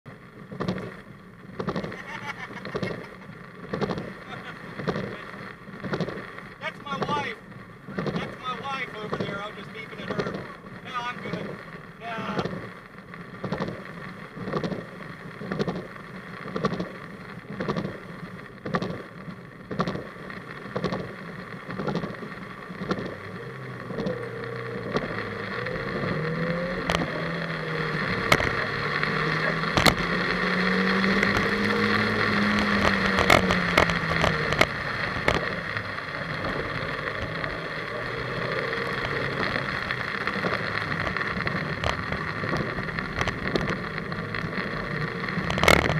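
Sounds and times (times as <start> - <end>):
wet road and wind noise: 0.0 - 45.9
car engine revving: 0.1 - 45.9.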